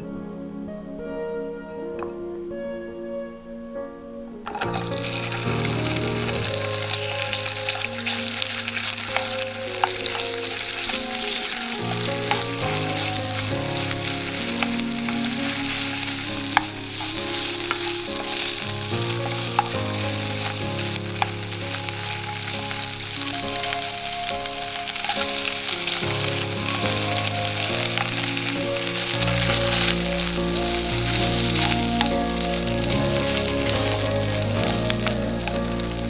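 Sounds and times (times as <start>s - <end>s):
soft background music: 0.0s - 36.0s
food sizzling in a frying pan: 4.5s - 36.0s.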